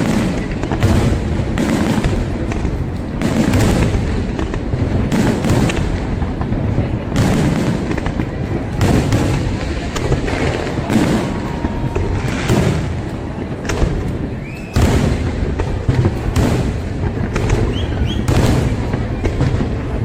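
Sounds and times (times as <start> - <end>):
fireworks booms and cracks: 0.0 - 20.0.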